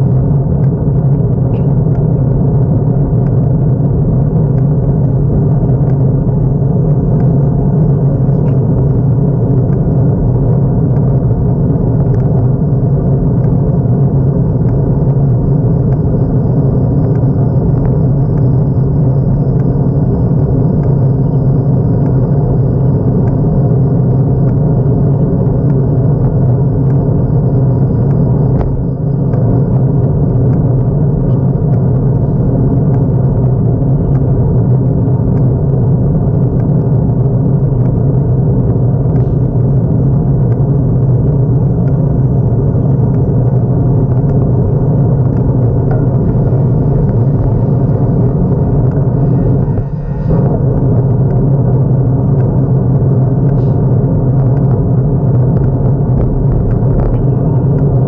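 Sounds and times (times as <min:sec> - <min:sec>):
wind and road noise rumbling: 0:00.0 - 0:58.0.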